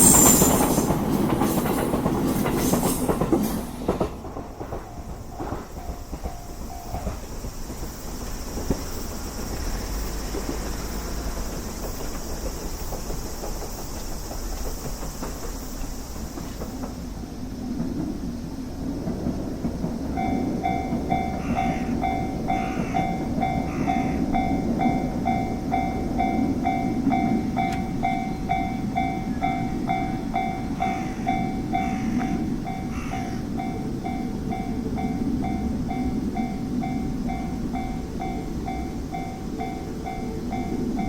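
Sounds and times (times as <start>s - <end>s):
level-crossing warning bell clanging: 0.0s - 17.2s, 19.2s - 41.0s.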